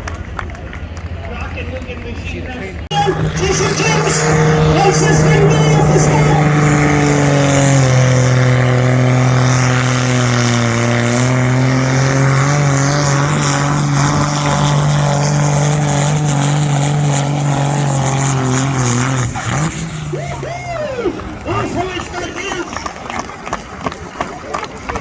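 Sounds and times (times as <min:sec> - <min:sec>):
tractor engine at high revs: 0:02.8 - 0:25.0.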